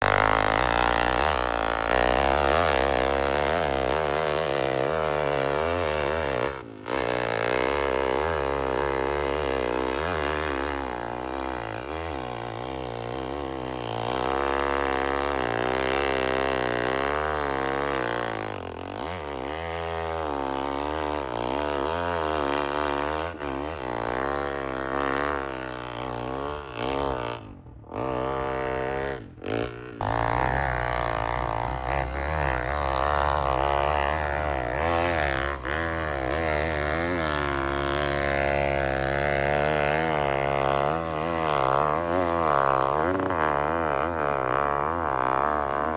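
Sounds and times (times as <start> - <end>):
dirt bike engine revving hard: 0.0 - 45.9.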